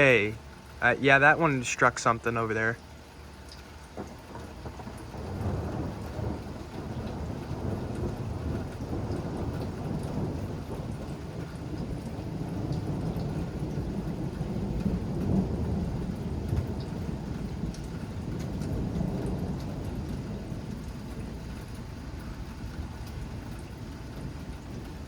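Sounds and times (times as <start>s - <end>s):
rain falling: 0.0s - 25.0s
thunder rumbling: 3.8s - 25.0s.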